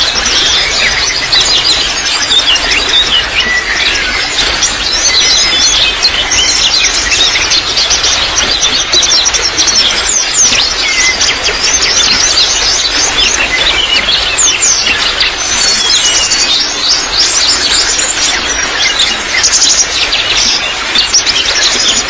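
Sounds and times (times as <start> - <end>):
small birds chirping: 0.0 - 22.0
water trickling: 0.0 - 22.0.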